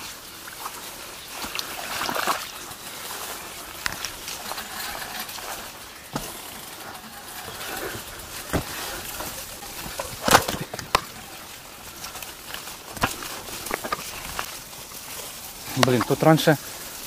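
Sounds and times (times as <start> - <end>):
steady rustle: 0.0 - 17.0
bicycle knocks and rattles: 2.8 - 16.4.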